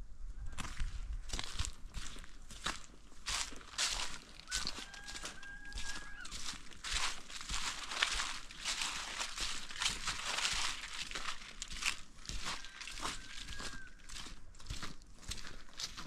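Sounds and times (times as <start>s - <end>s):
footsteps crunching through dry leaves: 0.6s - 16.0s.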